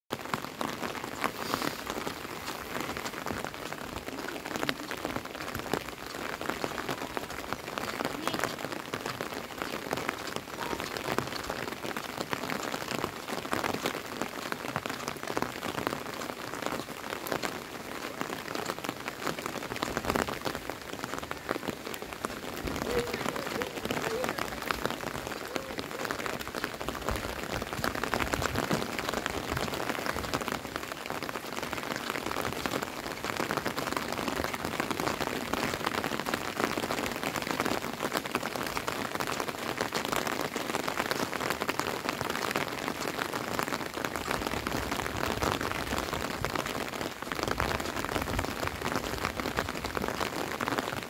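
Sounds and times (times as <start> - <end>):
rain on wet road: 0.1 - 51.0.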